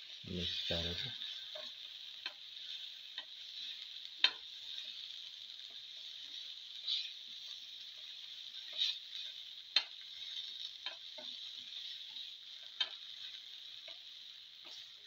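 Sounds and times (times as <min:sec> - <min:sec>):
vegetables sizzling in hot oil: 0:00.0 - 0:15.0
spatula scraping and knocking pan: 0:01.2 - 0:15.0.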